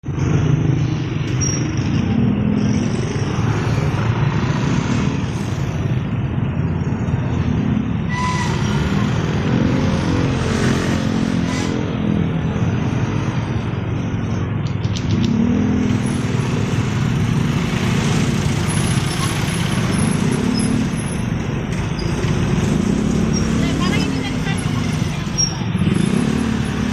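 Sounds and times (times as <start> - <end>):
wind and road noise: 0.0 - 26.9.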